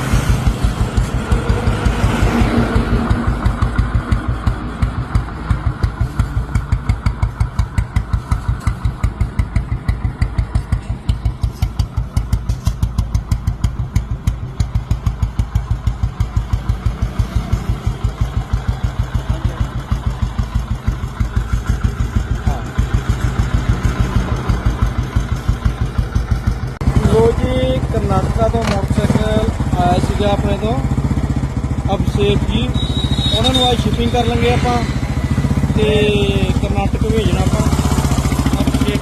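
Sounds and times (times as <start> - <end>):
motorcycle engine idling: 0.0 - 39.0.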